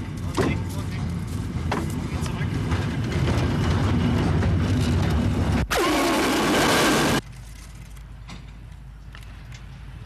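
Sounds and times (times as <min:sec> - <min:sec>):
freight wagons rumbling on rails: 0:00.0 - 0:10.0.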